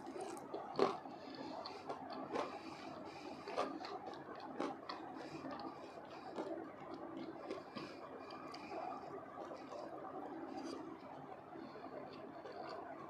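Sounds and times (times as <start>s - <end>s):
wet mouth sounds: 0.0s - 11.1s
crunchy chewing: 0.0s - 13.0s.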